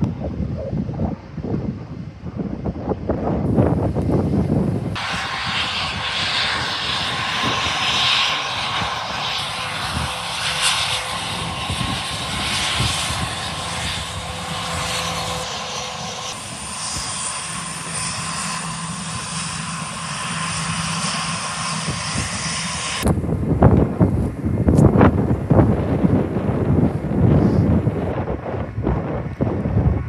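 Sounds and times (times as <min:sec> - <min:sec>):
jet engines with faint whine: 0:00.0 - 0:30.0
distant airliner taxiing: 0:00.2 - 0:30.0.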